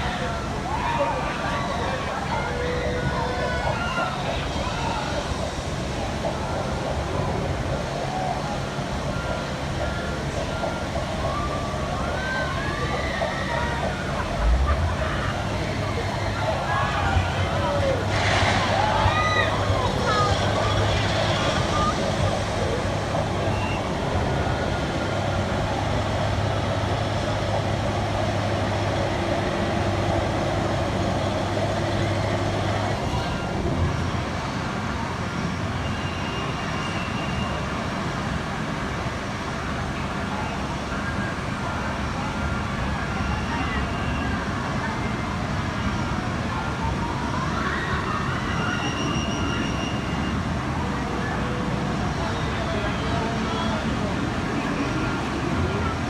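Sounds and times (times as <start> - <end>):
low engine-like hum: 0.0 - 56.0
outdoor noise: 0.0 - 56.0.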